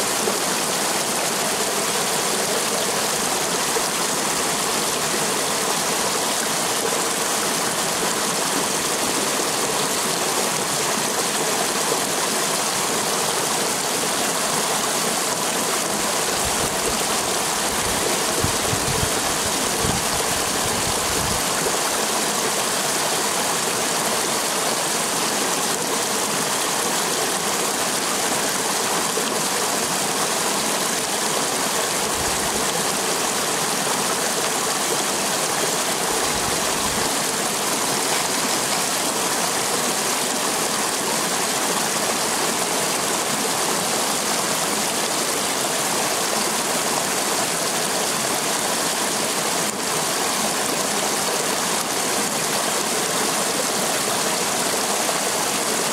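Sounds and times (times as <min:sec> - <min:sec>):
stream water rushing over rocks: 0:00.0 - 0:55.9.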